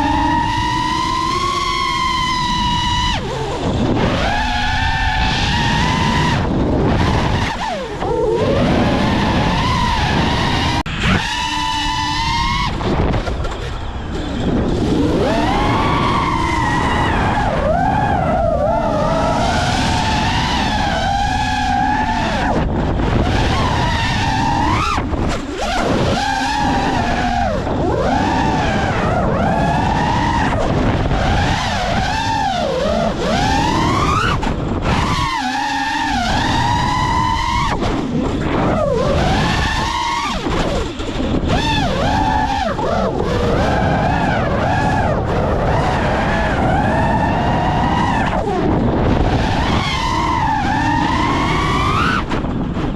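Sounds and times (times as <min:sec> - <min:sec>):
quadcopter motors whining: 0:00.0 - 0:52.9
wind rumble: 0:00.0 - 0:52.9.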